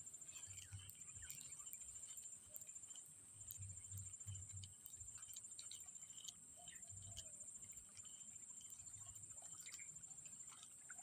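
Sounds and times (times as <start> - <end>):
insect drone: 0.0 - 11.0
soft ticks: 0.0 - 11.0.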